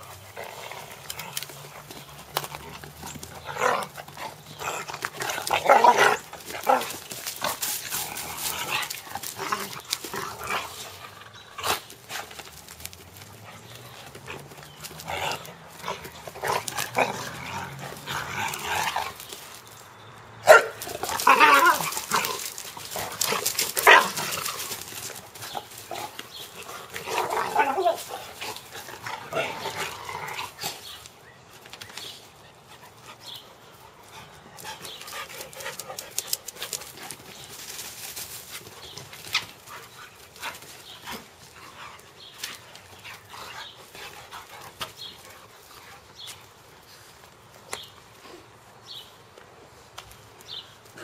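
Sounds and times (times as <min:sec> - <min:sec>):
dogs scuffling: 0:00.0 - 0:19.9, 0:20.5 - 0:48.3.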